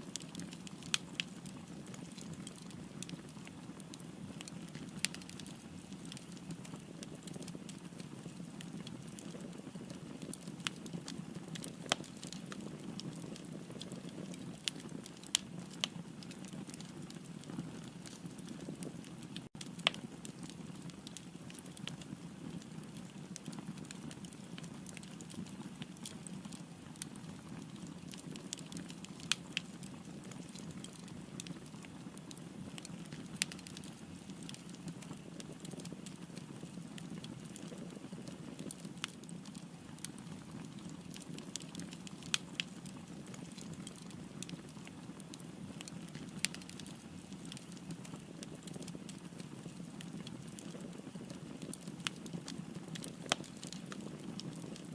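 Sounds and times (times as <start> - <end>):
burning wood crackling and popping: 0.0 - 54.9
flames rustling: 0.0 - 54.9.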